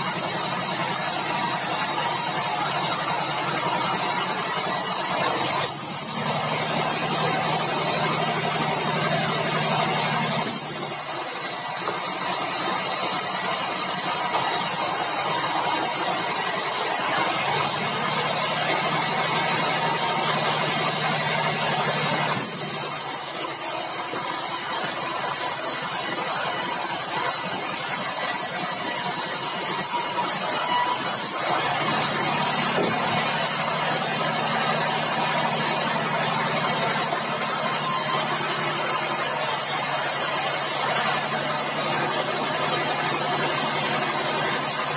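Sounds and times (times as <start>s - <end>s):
bandsaw machinery running: 0.0s - 44.9s.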